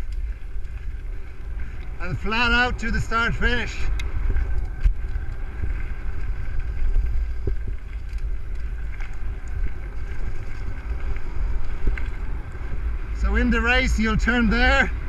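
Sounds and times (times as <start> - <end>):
low rumble of tyres: 0.0 - 15.0
wind buffeting microphone: 0.0 - 15.0.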